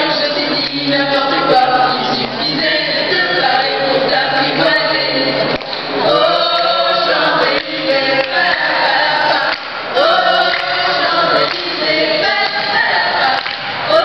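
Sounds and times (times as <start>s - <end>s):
group singing into microphones: 0.0s - 14.0s.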